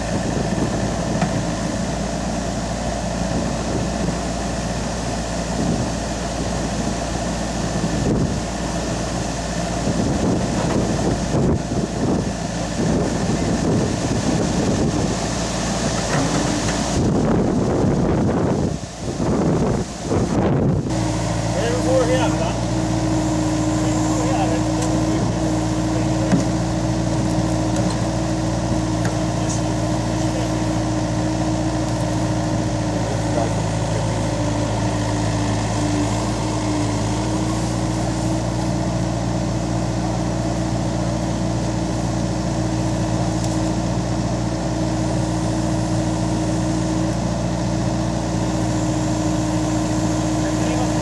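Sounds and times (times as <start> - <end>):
excavator engine humming: 0.0 - 51.0.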